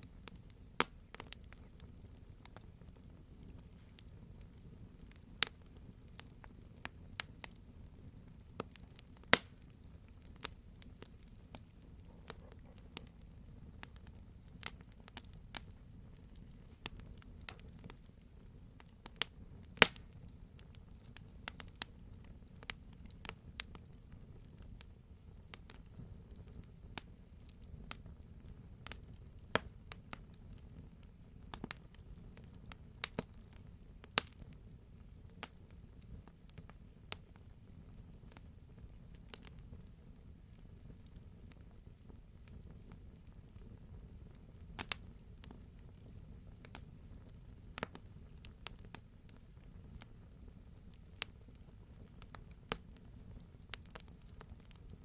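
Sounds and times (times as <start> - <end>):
campfire crackling and popping: 0.0 - 55.0
low rumble of fire: 0.0 - 55.0.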